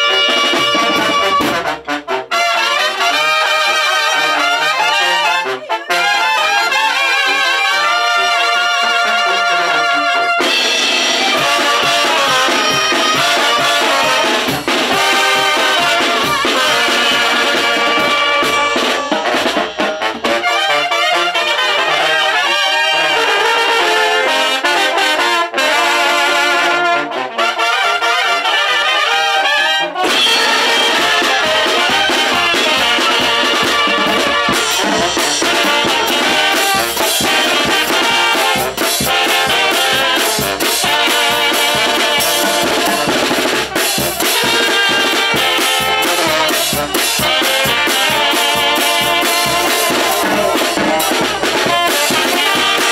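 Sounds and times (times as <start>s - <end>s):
drums: 0.0s - 52.9s
wind band playing: 0.0s - 52.9s.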